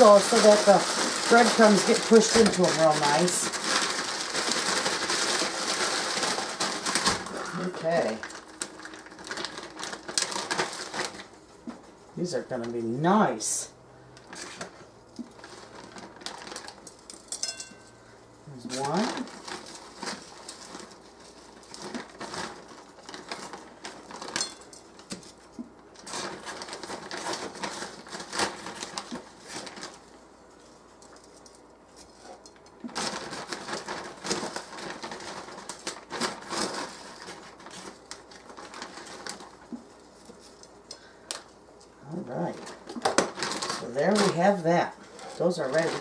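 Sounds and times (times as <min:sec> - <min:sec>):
plastic bag crinkling: 0:00.0 - 0:46.0.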